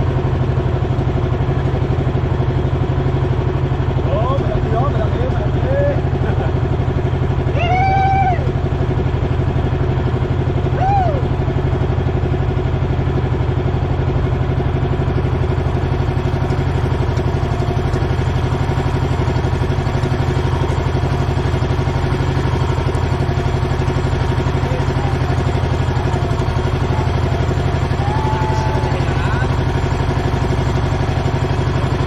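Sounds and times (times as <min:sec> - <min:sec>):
boat engine pulsing drone: 0:00.0 - 0:32.0.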